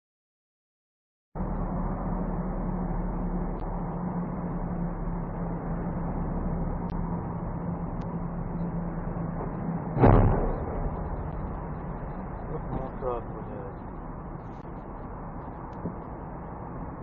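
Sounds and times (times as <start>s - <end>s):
constant low hum: 1.4s - 17.0s
vehicle engine and road noise: 1.4s - 17.0s.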